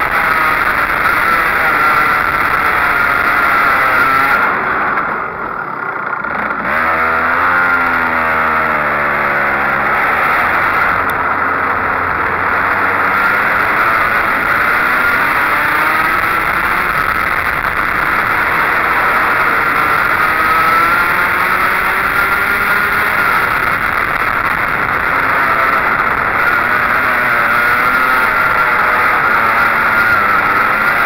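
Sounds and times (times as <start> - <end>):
go-kart engine revving: 0.0 - 31.0.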